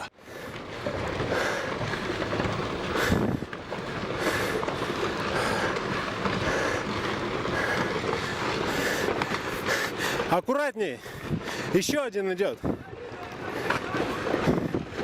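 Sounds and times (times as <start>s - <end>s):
rush of tumbling rock: 0.2s - 15.0s.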